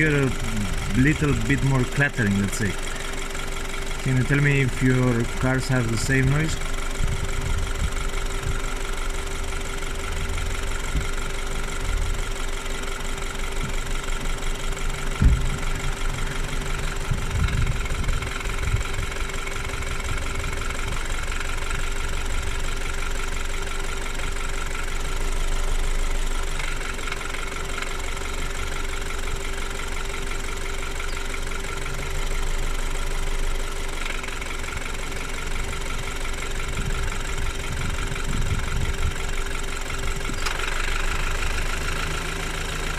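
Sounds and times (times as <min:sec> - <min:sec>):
car engine idling with rattle: 0:00.0 - 0:42.9.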